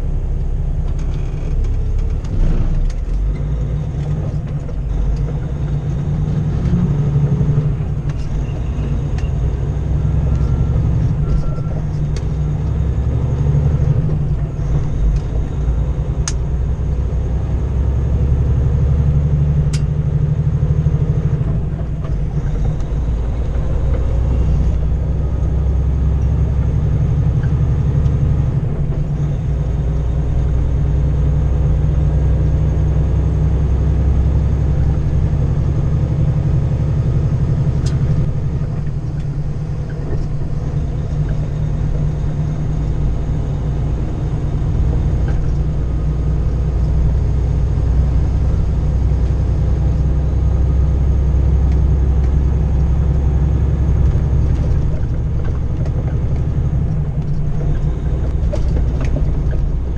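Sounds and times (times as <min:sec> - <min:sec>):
truck diesel engine droning: 0:00.0 - 0:59.9.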